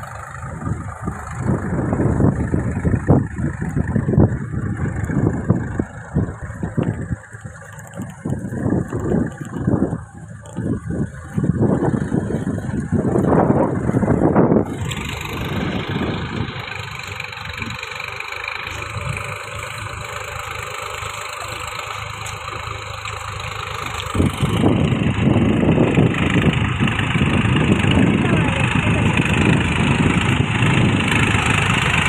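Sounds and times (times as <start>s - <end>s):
tractor engine under load: 0.0s - 32.0s.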